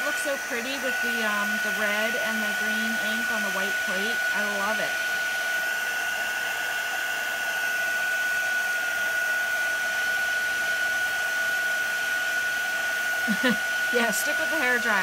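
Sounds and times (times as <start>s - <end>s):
fan whine: 0.0s - 15.0s
heat gun blowing air: 0.0s - 15.0s.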